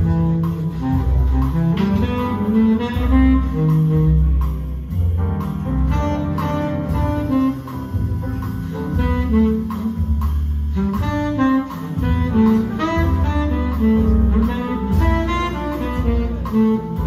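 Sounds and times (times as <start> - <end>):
double bass: 0.0 - 17.0
saxophone: 0.0 - 17.0.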